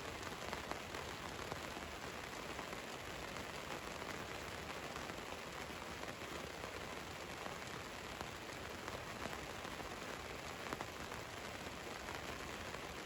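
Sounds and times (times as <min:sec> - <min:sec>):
rain on a vehicle roof: 0:00.0 - 0:13.0.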